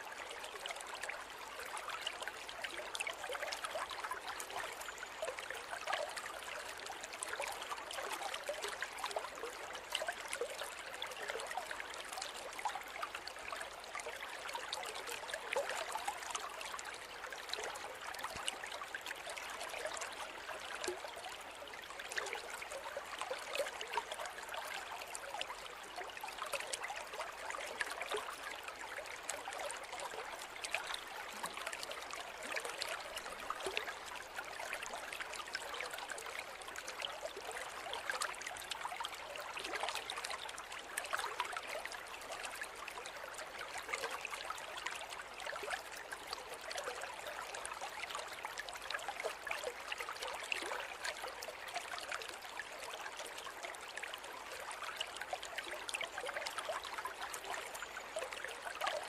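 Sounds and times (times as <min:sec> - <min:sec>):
small splashes and trickles: 0:00.0 - 0:59.0.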